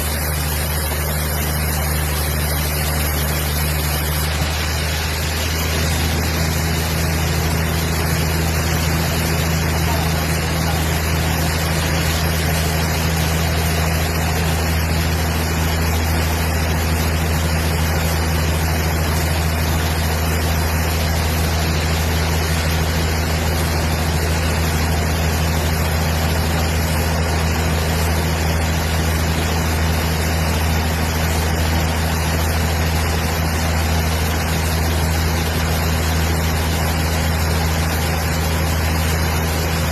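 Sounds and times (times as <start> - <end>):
wood-cutting machinery running: 0.0 - 39.9.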